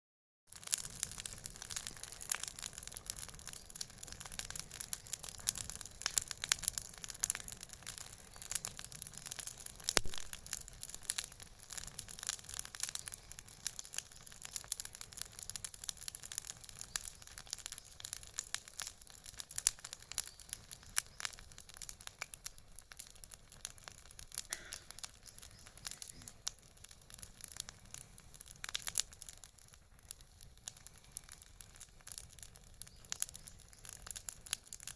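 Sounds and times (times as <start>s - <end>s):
bonfire crackling and popping: 0.5s - 34.9s.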